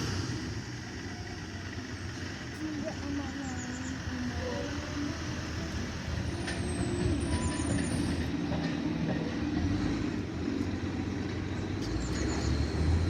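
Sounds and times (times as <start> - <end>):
garbage truck engine rumble: 0.0 - 13.0.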